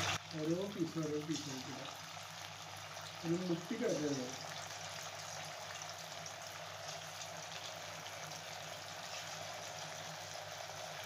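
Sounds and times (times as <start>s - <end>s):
chicken deep-frying in hot oil: 0.0s - 11.0s.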